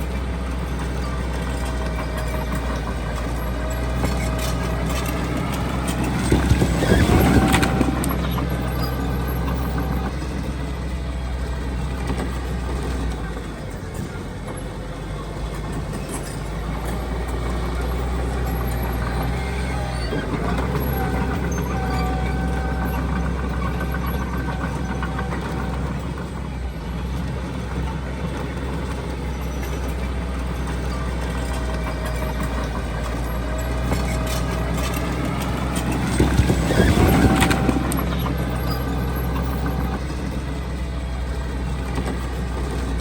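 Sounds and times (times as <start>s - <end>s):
clattering noise: 0.0s - 43.0s
heavy machinery diesel engine: 0.0s - 43.0s.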